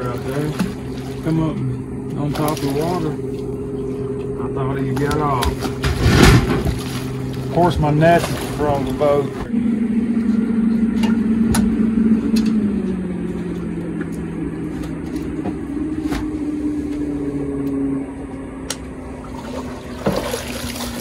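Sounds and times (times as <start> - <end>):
boat motor humming: 0.0 - 21.0.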